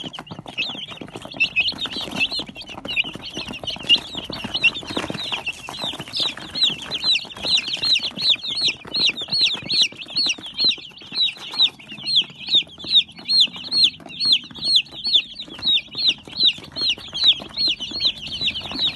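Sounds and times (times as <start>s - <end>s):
chick peeping: 0.0s - 18.9s.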